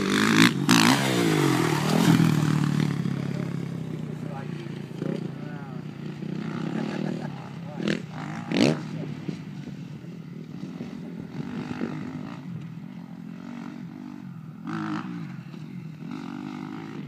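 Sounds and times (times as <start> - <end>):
distant motocross bike revving: 0.0 - 17.0.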